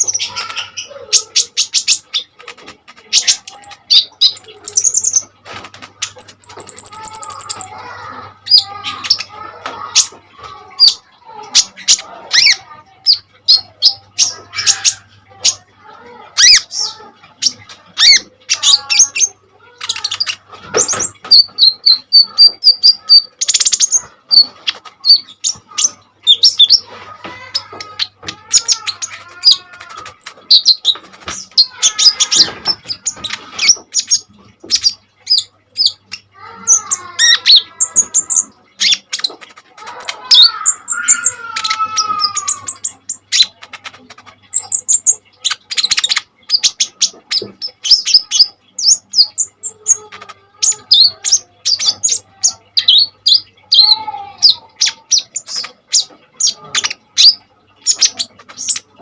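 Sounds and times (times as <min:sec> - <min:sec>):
sunbird chirping and trilling: 0:03.0 - 0:05.3, 0:06.0 - 0:43.7, 0:44.4 - 0:59.0.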